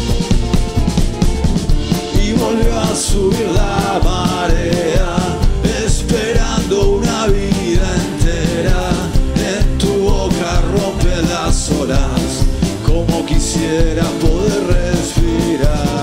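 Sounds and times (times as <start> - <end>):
acoustic guitar: 0.0 - 16.0
drum kit beat: 0.0 - 16.0
upright double bass: 0.0 - 16.0
man singing: 1.9 - 16.0.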